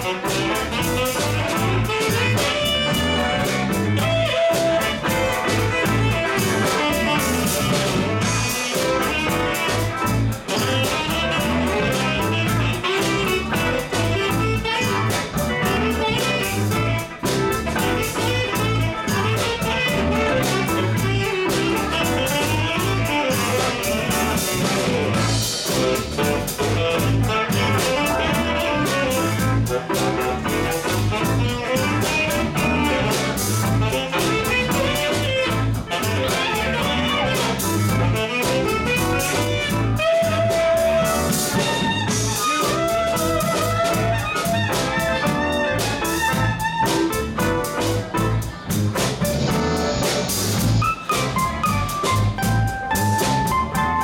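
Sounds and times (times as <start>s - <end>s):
electric bass pulse: 0.0s - 54.0s
electric guitars: 0.0s - 54.0s
keyboard lines: 0.0s - 54.0s.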